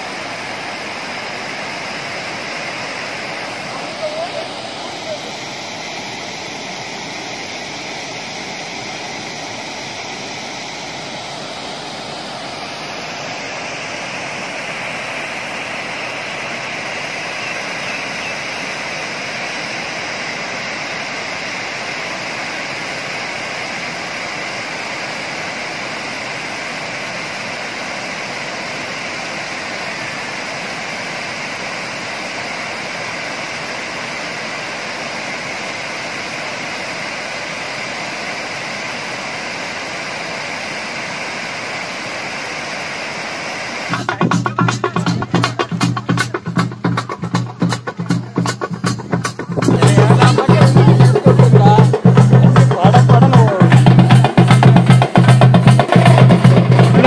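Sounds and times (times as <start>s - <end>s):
water rushing over spillway: 0.0s - 57.0s.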